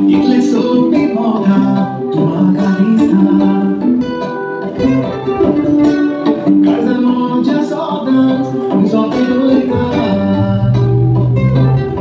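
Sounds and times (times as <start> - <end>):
music with plucked guitar: 0.0 - 12.0.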